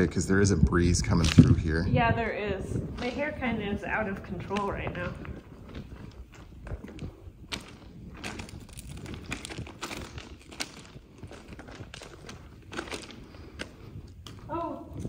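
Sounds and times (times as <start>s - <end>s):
wind rumble on microphone: 0.0s - 15.0s
footsteps crunching on gravel: 2.8s - 15.0s.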